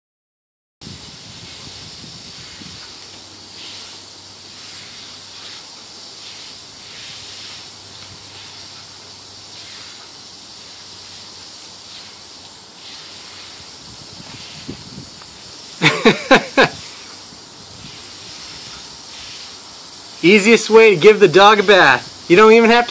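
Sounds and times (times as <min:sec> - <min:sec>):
water spraying from hose: 0:00.8 - 0:22.9.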